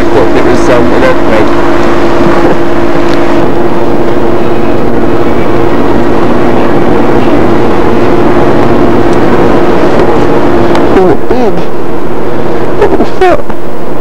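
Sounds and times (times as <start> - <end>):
hot tub pump humming: 0.0 - 14.0.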